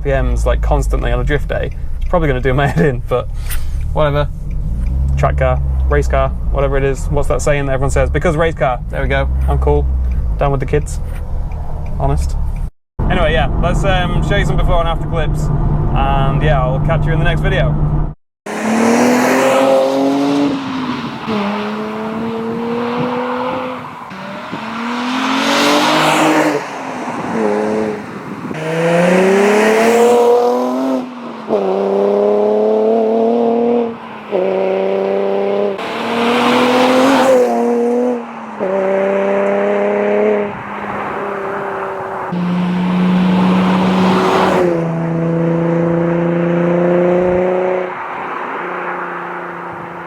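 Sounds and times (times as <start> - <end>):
car engine revving through gears: 0.2 - 12.7, 13.4 - 50.0.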